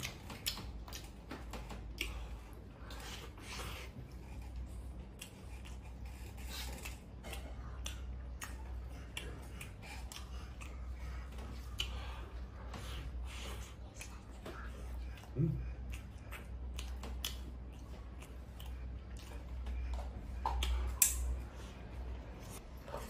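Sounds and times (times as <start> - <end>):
low steady hum: 0.0 - 23.0
person chewing: 0.0 - 23.0.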